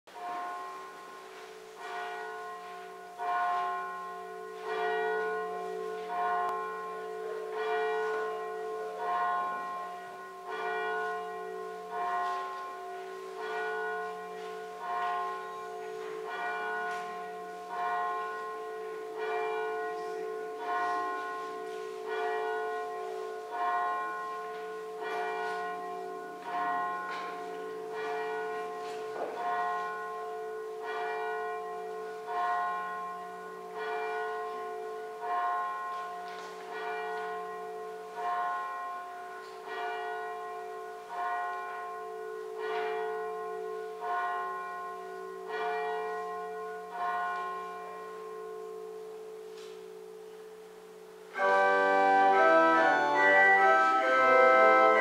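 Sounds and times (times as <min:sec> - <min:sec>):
church bell ringing: 0:00.1 - 0:55.0.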